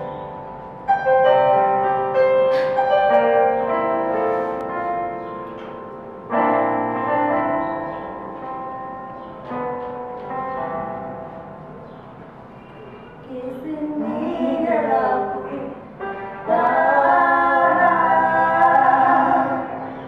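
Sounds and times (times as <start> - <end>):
electronic keyboard piano chords: 0.0 - 20.0.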